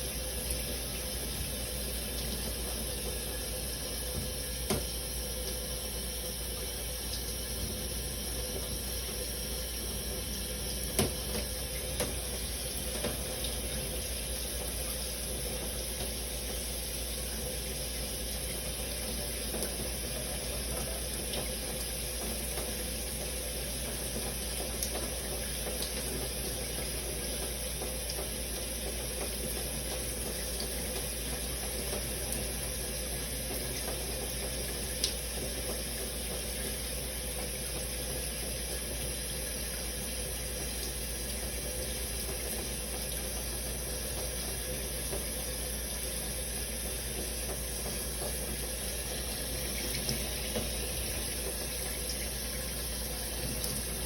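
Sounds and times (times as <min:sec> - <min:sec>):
shower water running: 0:00.0 - 0:54.0.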